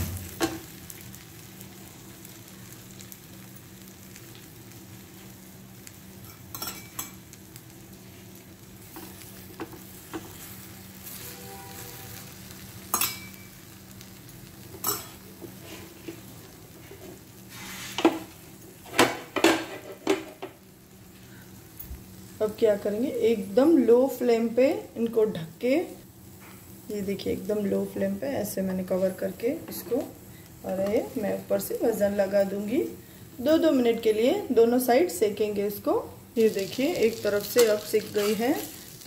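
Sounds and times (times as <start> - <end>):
oil sizzling on a griddle: 0.0 - 39.0.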